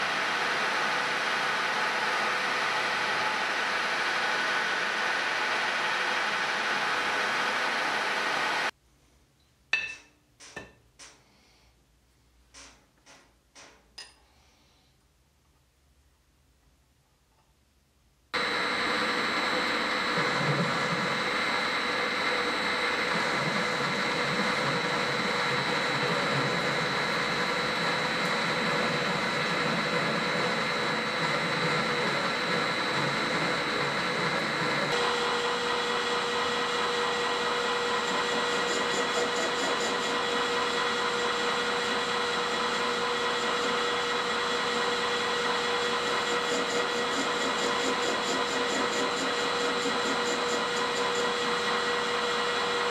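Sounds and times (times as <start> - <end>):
metal lathe whining: 0.0 - 8.7, 18.4 - 52.9.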